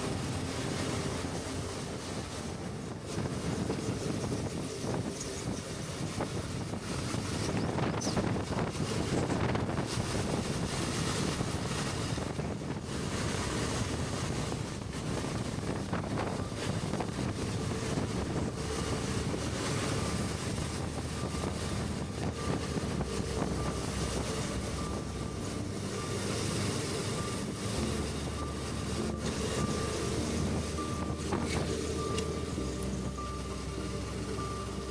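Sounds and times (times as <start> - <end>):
muffled motorcycle engine: 0.0 - 34.9
road noise: 0.0 - 34.9
wind rushing over microphone: 0.0 - 34.9.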